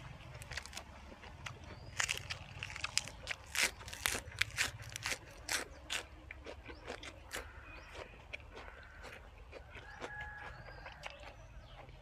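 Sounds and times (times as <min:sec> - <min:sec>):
person crunching raw vegetables: 0:00.0 - 0:12.0.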